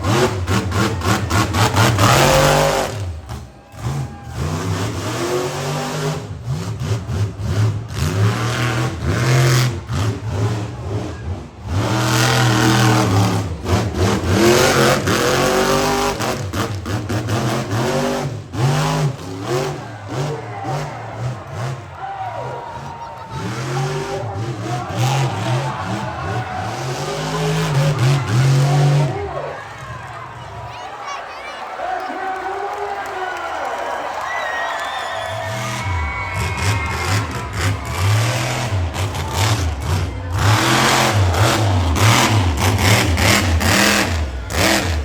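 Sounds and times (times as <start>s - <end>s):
monster truck engine revving: 0.0s - 45.0s.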